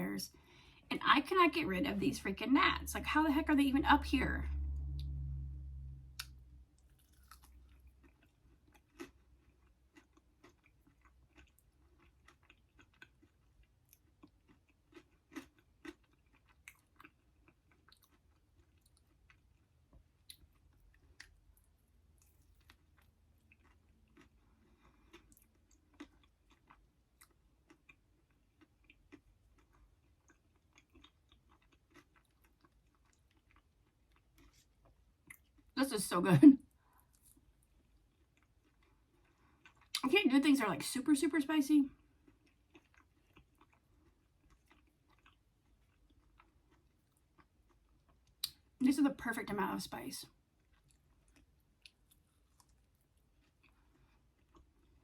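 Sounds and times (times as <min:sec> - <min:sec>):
close-up chewing: 0:06.2 - 0:35.8, 0:36.8 - 0:40.1, 0:41.9 - 0:48.8, 0:50.3 - 0:55.0.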